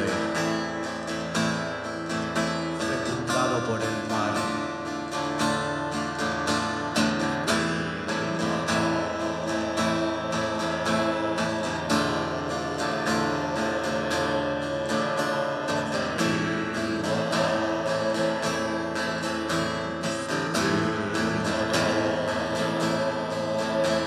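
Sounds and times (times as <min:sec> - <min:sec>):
strummed acoustic guitar band music: 0:00.0 - 0:24.0.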